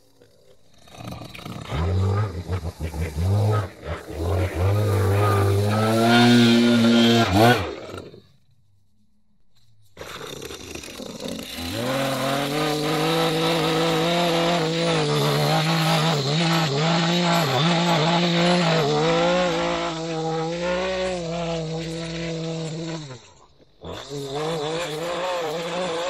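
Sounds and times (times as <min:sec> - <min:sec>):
blade cutting lawn edge: 0:00.0 - 0:08.2, 0:10.0 - 0:26.0
small gas engine revving: 0:00.0 - 0:08.4, 0:10.0 - 0:26.0
edger engine running: 0:00.0 - 0:08.9, 0:09.6 - 0:26.0.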